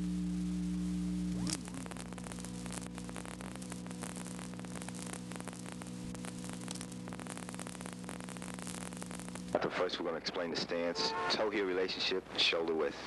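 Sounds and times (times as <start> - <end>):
crackling static hiss: 0.0 - 13.0
electrical hum: 0.0 - 13.0.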